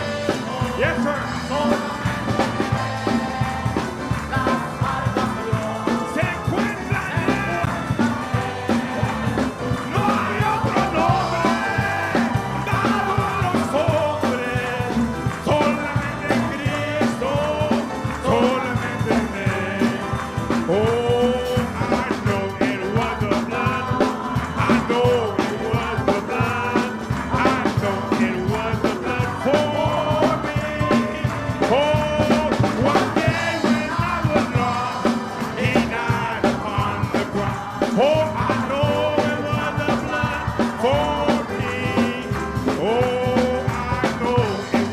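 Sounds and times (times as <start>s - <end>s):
band playing upbeat gospel song: 0.0s - 44.9s
steady drum beat: 0.0s - 44.9s.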